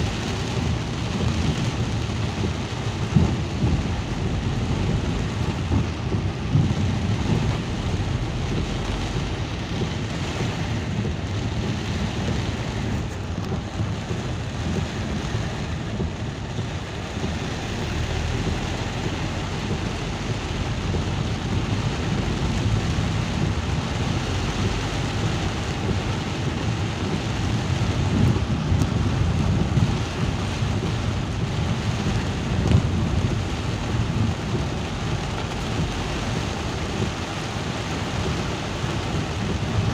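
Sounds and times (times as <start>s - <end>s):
low rumble: 0.0s - 39.9s
steady rain: 0.0s - 39.9s.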